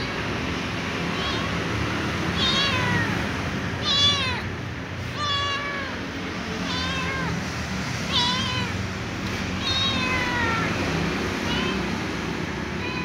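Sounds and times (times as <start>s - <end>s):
cat meowing: 0.0s - 0.3s, 1.0s - 12.1s, 12.7s - 13.0s.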